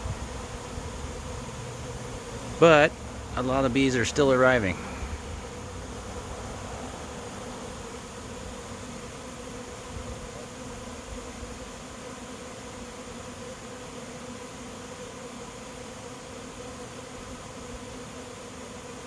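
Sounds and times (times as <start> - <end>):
swarm of bees buzzing: 0.0 - 19.0.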